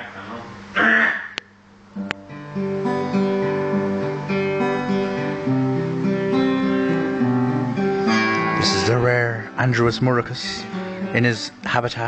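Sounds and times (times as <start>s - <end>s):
acoustic guitar chords: 1.8s - 12.0s.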